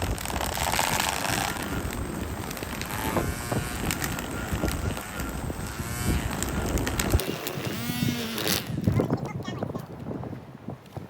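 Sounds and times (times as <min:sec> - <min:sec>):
string trimmer cutting grass: 0:00.0 - 0:09.5
trimmer line crackling on lawn: 0:00.0 - 0:11.0
wind buffeting microphone: 0:00.0 - 0:11.0.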